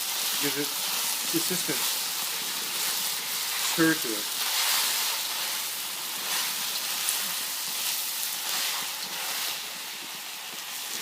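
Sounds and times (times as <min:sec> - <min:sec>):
noodles sizzling in a wok: 0:00.0 - 0:11.0.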